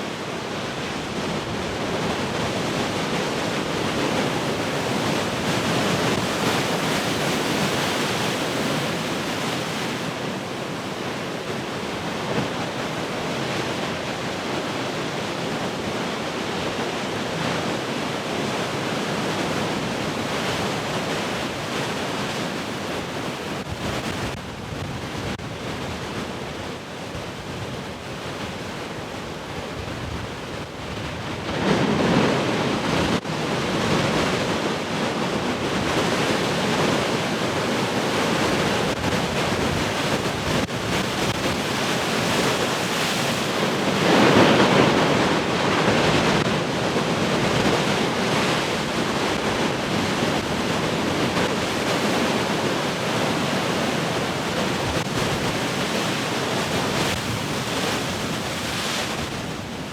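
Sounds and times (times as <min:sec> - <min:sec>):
big waves crashing: 0:00.0 - 0:59.9
heavy surf: 0:00.0 - 0:59.9.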